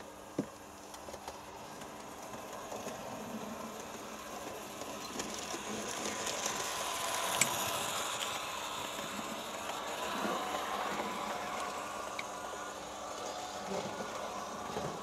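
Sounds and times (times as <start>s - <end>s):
model train motor and wheels running: 0.0s - 15.0s.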